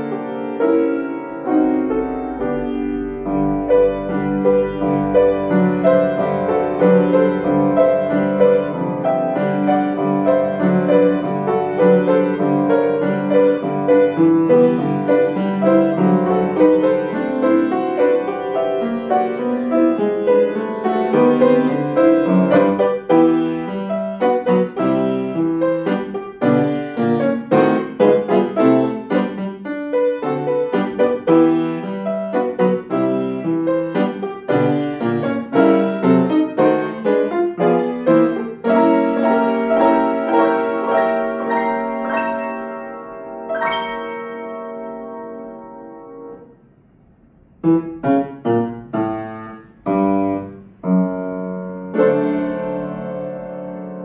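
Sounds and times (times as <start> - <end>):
grand piano playing: 0.0 - 54.0.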